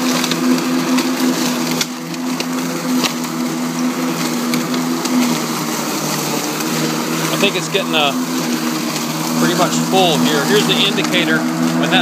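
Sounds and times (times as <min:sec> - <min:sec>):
cordless lawn mower humming: 0:00.0 - 0:12.0
crackle of leaf debris: 0:00.0 - 0:12.0.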